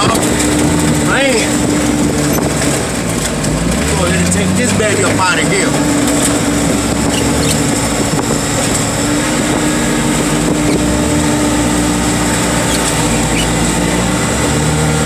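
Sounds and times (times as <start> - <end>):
heavy equipment engine whine: 0.0 - 15.0.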